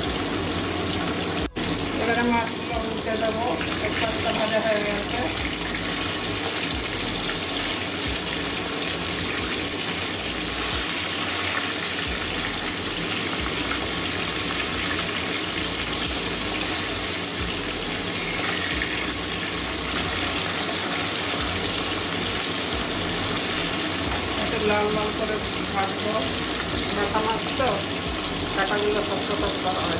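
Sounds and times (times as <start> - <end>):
fish frying in hot oil: 0.0 - 29.9.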